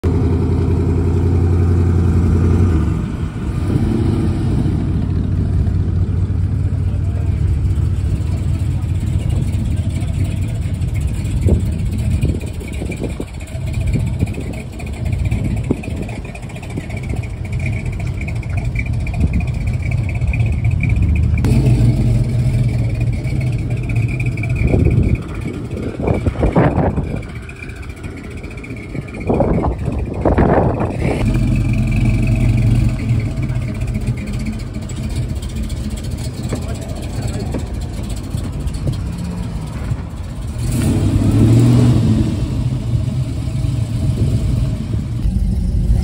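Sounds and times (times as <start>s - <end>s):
car engine rumbling and revving: 0.0s - 46.0s.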